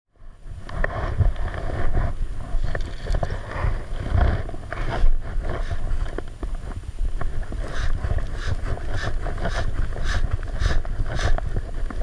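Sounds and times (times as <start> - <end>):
wind buffeting microphone: 0.2 - 12.0
water noise: 0.4 - 12.0.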